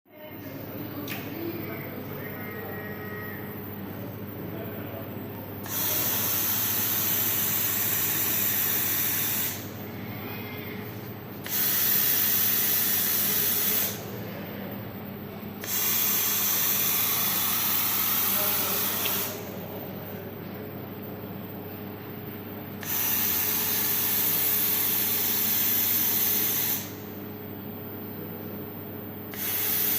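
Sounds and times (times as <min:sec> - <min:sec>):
machine hum: 0:00.2 - 0:29.9.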